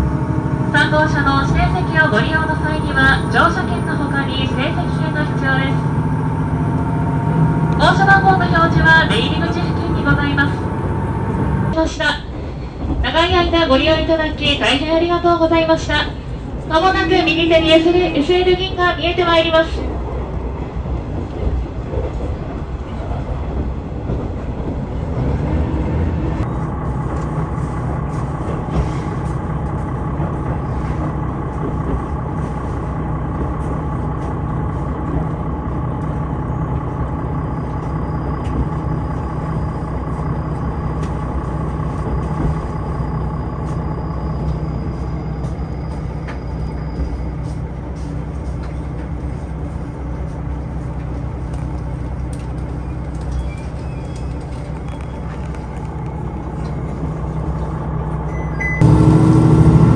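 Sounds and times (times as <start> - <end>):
train engine and wheels rumbling: 0.0 - 59.9.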